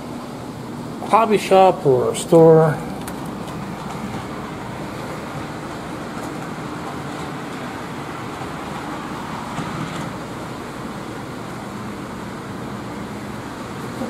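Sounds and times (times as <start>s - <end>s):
room noise: 0.0s - 14.0s.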